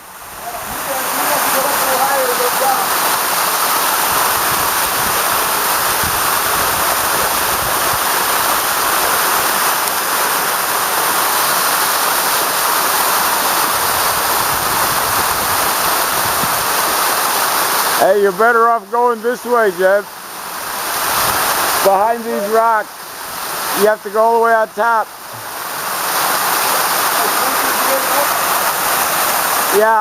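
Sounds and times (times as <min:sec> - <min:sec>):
waterfall rushing onto rock: 0:00.0 - 0:30.0.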